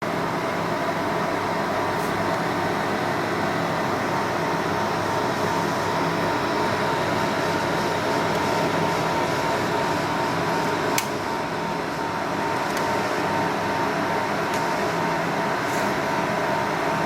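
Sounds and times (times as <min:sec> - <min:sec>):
server cooling fans whirring: 0:00.0 - 0:17.0.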